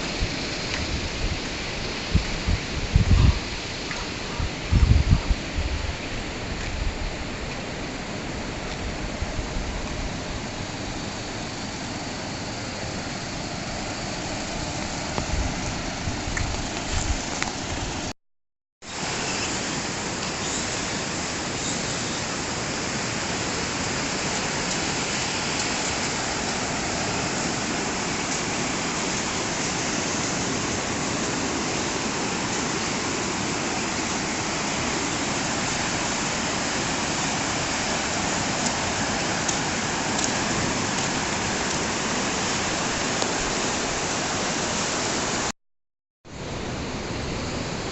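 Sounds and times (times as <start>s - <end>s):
river rushing: 0.0s - 18.1s, 18.9s - 45.5s, 46.3s - 47.9s.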